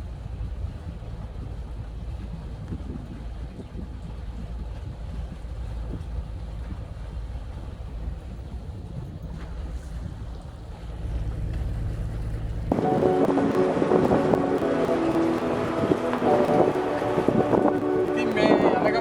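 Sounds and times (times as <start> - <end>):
boat engine rumble: 0.0 - 19.0
rushing water: 0.0 - 19.0
wind buffeting microphone: 0.0 - 19.0.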